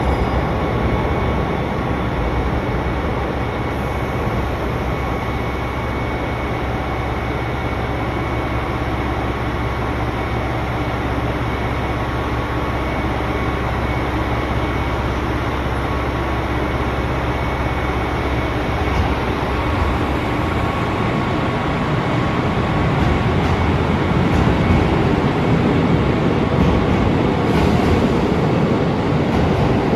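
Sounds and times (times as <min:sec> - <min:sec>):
electric train rumbling: 0:00.0 - 0:29.9.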